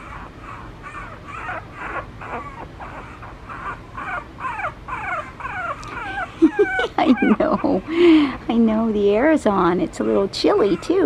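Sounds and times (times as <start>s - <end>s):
puppy whimpering: 0.0s - 8.4s, 9.2s - 11.0s.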